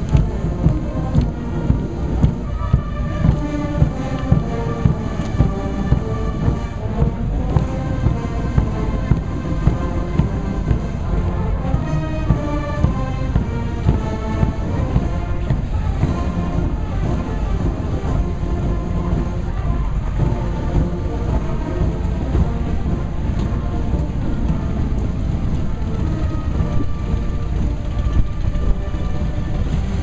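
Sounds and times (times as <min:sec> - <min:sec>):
bass drum beat: 0:00.0 - 0:30.0
marching band playing: 0:00.0 - 0:30.0.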